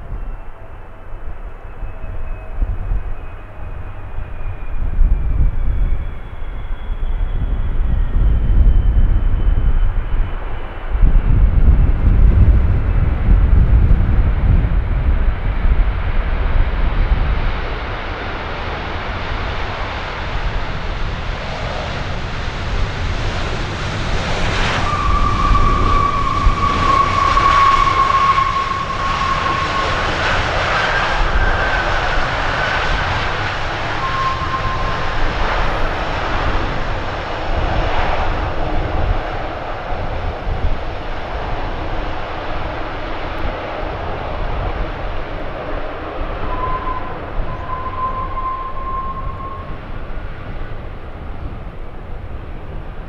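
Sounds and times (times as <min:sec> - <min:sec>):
heavy low rumble: 0:00.0 - 0:53.0
jet airliner passing: 0:00.0 - 0:53.0.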